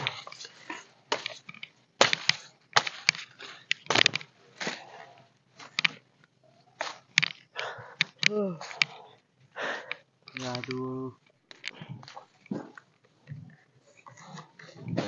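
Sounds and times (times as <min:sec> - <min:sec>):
branches snapping: 0:00.0 - 0:06.1, 0:06.8 - 0:12.9.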